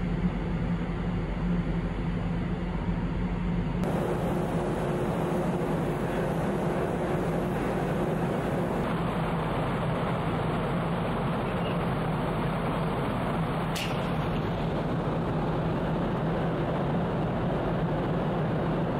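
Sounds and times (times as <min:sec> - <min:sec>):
ship engines droning: 0:00.0 - 0:18.9.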